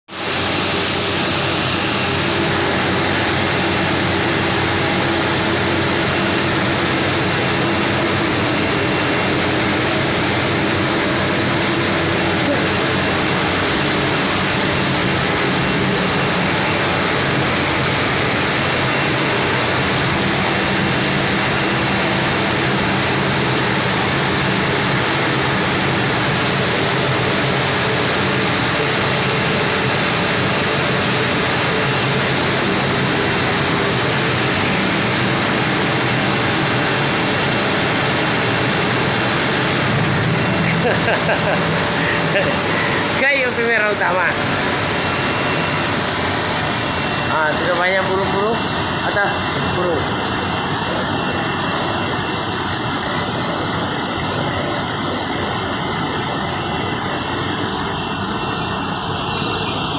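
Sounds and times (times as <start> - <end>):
welding arc crackling hiss: 0.1 - 59.9.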